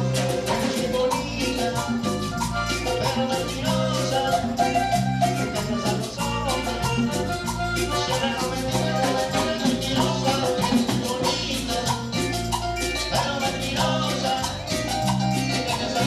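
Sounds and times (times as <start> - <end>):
latin dance music: 0.0 - 16.0.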